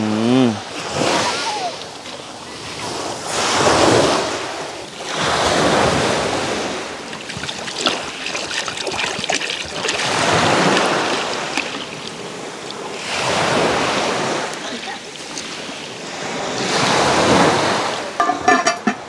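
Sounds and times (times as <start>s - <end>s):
waves breaking on pebbles: 0.7s - 18.2s.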